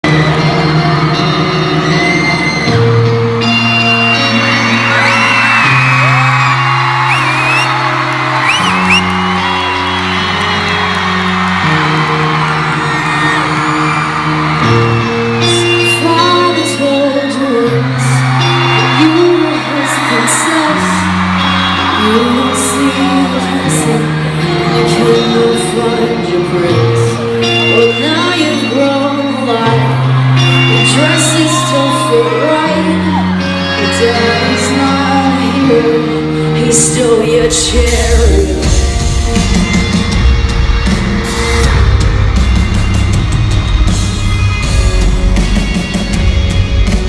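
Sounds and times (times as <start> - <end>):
crowd screaming and whooping: 0.0 - 47.0
live rock band playing: 0.0 - 47.0.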